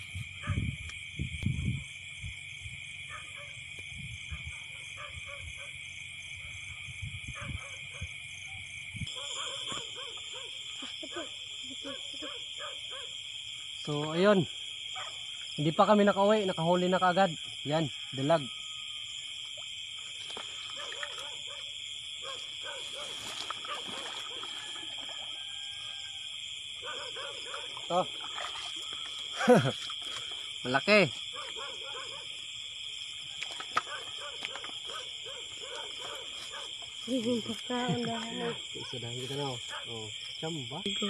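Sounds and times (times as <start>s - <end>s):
frogs calling: 0.0s - 41.0s
insect trill: 0.0s - 41.0s
pulsing insect chirp: 0.0s - 41.0s.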